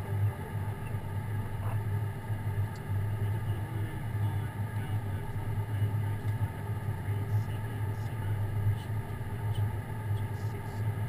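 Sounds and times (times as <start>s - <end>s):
airliner engines humming: 0.0s - 11.0s.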